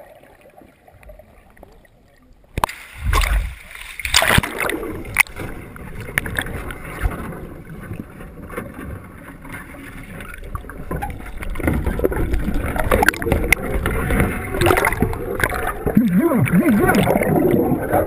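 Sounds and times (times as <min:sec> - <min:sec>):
underwater churning and bubbling: 0:00.0 - 0:18.0.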